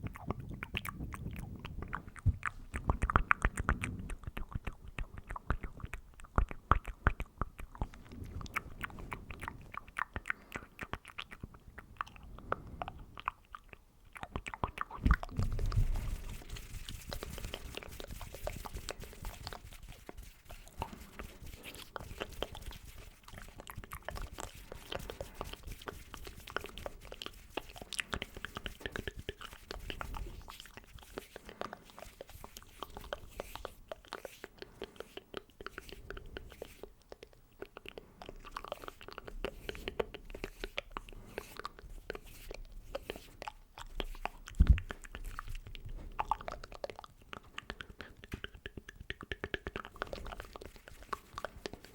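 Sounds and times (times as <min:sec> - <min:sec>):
mouth clicks and smacks: 0:00.0 - 0:51.9.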